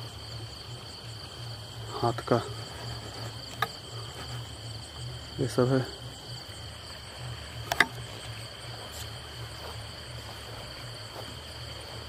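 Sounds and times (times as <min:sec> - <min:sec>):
low steady hum: 0:00.0 - 0:12.0
night insects chirring: 0:00.0 - 0:12.0.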